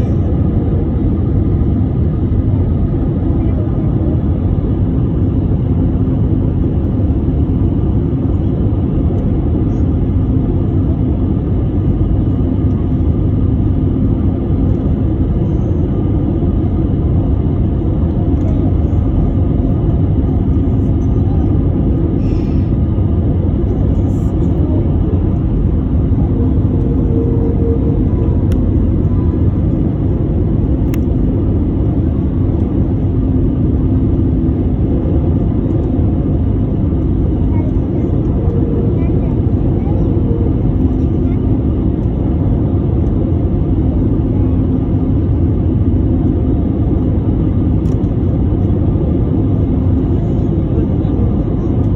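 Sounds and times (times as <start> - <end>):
airplane cabin low rumble: 0.0 - 51.9
faint constant hum: 0.0 - 51.9.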